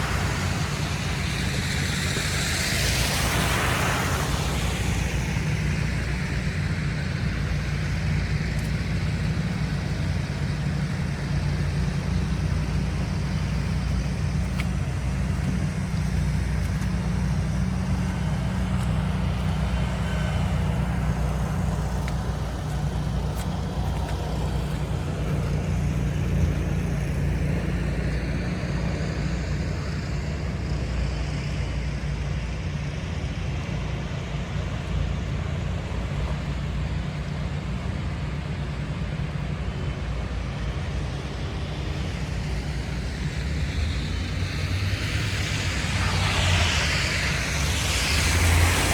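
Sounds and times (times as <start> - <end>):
city street traffic: 0.0 - 48.9.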